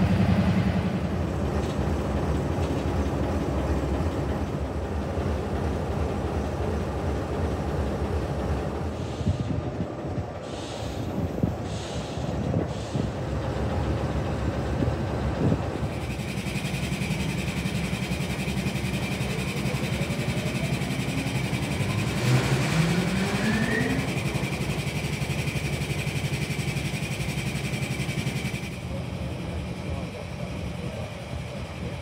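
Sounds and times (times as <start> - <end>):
locomotive diesel engine running: 0.0 - 32.0.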